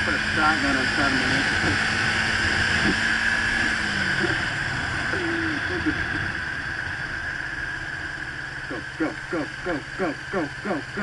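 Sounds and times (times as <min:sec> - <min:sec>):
motorcycle engine hum: 0:00.0 - 0:11.0.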